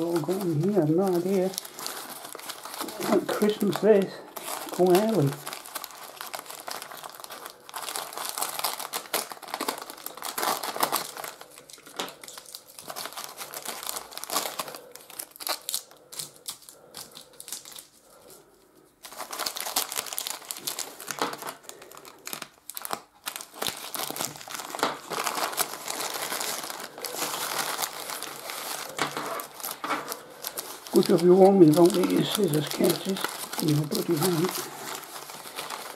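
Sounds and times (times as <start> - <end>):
paper crinkling and tearing: 0.0 - 35.9.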